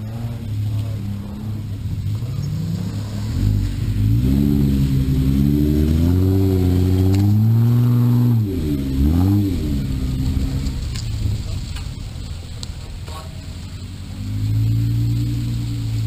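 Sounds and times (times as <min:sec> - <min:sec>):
engine pulling under load: 0:00.0 - 0:16.0.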